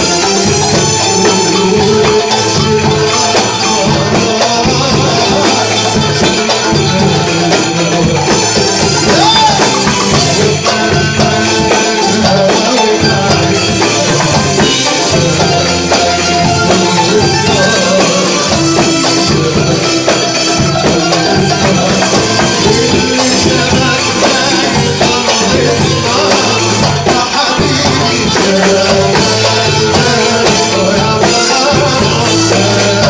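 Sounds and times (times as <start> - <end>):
darbuka: 0.0 - 33.0
drum kit: 0.0 - 33.0
keyboards: 0.0 - 33.0
qanun: 0.0 - 33.0.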